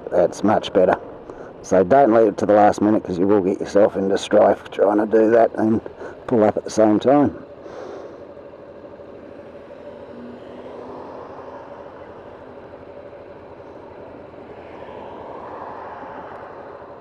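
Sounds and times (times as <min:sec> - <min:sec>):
motorcycle engines idling: 0:00.0 - 0:17.0
passing traffic: 0:00.0 - 0:17.0.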